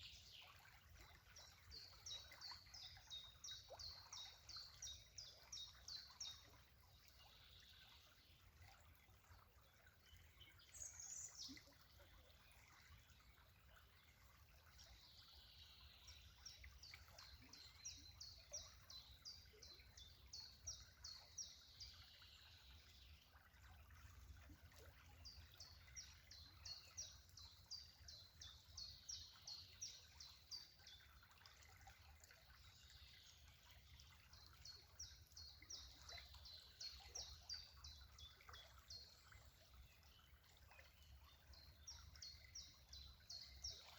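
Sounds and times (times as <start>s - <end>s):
faint birdsong: 0.0s - 43.9s.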